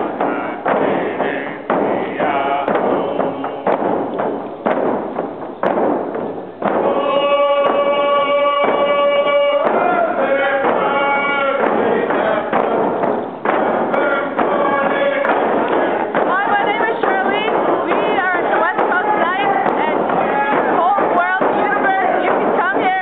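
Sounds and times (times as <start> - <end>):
group of voices chanting: 0.0 - 3.9, 6.6 - 23.0
frame hand drums struck: 0.0 - 23.0.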